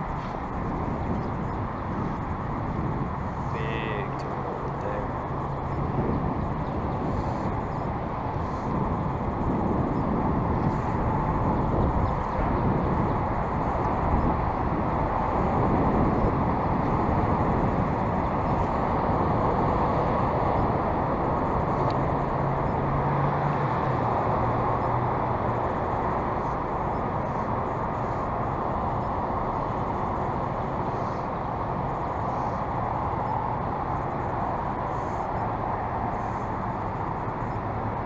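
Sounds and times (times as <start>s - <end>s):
wind rushing on microphone: 0.0s - 38.0s.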